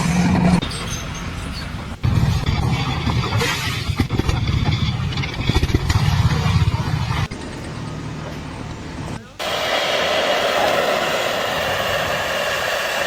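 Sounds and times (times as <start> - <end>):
engine running with knocks and clatter: 0.0 - 13.0.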